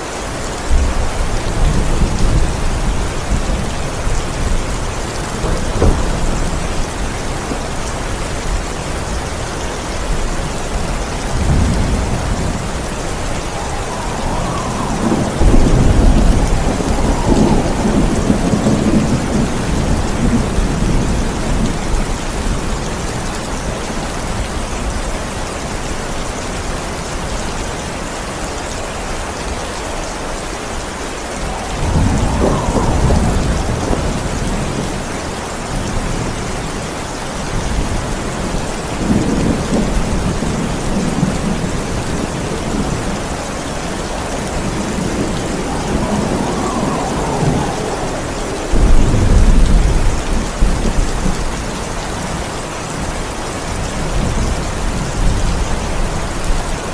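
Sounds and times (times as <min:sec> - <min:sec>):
heavy rain: 0:00.0 - 0:56.9
thunder rumbling: 0:00.5 - 0:25.4, 0:29.4 - 0:56.9.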